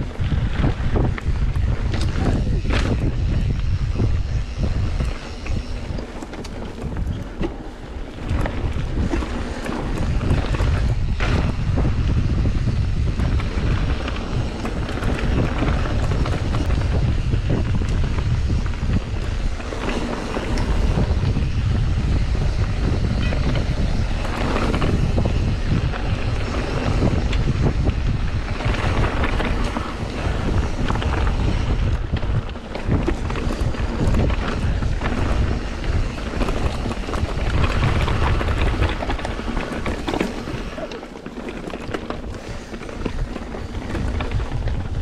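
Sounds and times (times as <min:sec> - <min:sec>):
bike clicks and rattles: 0:00.0 - 0:45.0
tyres rolling on dirt trail: 0:00.0 - 0:45.0
wind buffeting microphone: 0:00.0 - 0:45.0.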